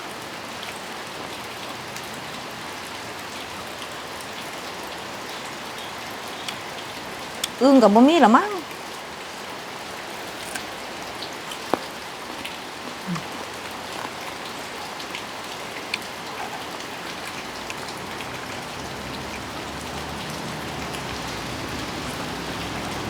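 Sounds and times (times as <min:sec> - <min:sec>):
raindrops ticking on surfaces: 0:00.0 - 0:23.0
steady rain falling: 0:00.0 - 0:23.0.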